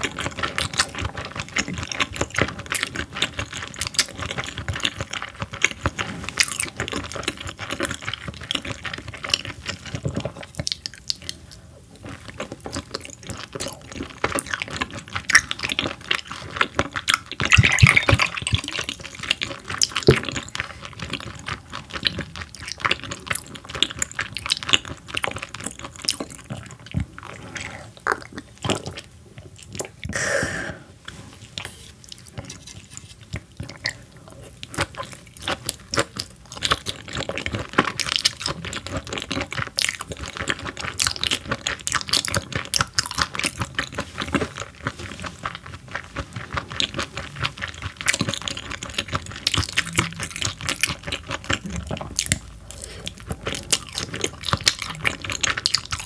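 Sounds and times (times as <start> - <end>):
close chewing with wet mouth sounds: 0.0 - 30.2, 31.0 - 56.0.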